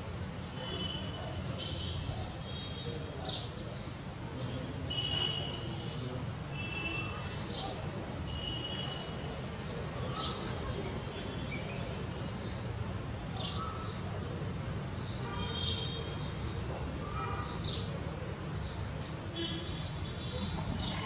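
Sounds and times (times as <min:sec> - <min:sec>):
birds chirping: 0:00.5 - 0:21.0.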